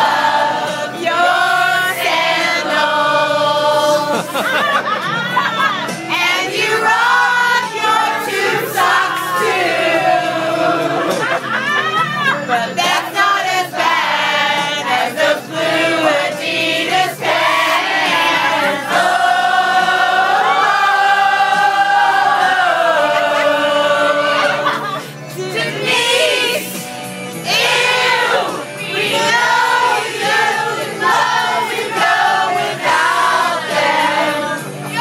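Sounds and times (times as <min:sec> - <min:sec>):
group singing: 0:00.0 - 0:35.0.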